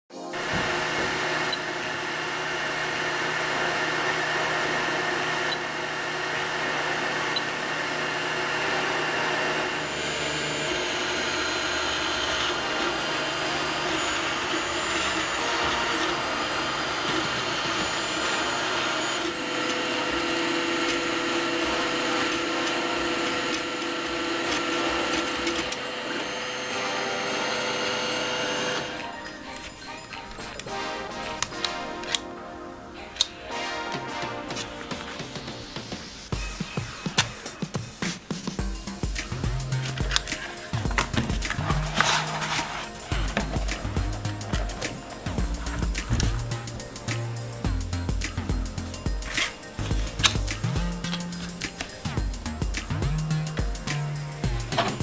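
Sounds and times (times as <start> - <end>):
stepper motors whining: 0.2 - 32.2, 34.9 - 55.0
printer fans whirring: 0.2 - 33.4, 34.6 - 55.0.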